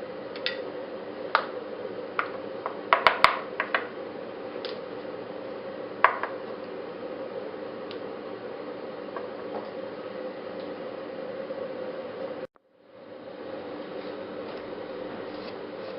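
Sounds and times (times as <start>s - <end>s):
milling machine humming: 0.0s - 15.9s.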